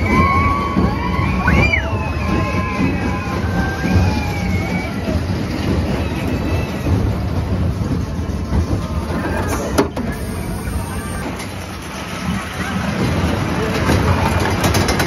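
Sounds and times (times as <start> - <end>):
roller coaster wheels rumbling on track: 0.0 - 15.0.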